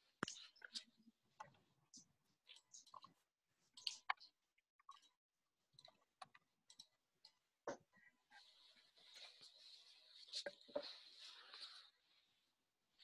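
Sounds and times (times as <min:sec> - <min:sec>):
faint clicks and ticks: 0:00.0 - 0:11.9.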